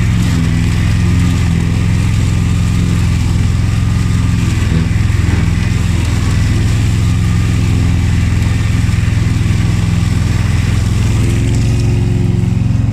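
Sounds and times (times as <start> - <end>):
lawn tractor engine running: 0.0 - 12.9.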